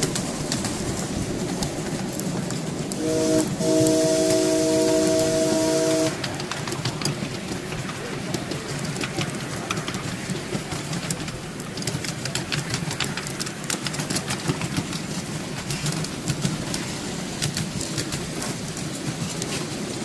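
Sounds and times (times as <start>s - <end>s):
miniature train rumbling: 0.0s - 20.0s
wheels clicking over rail joints: 0.0s - 20.0s.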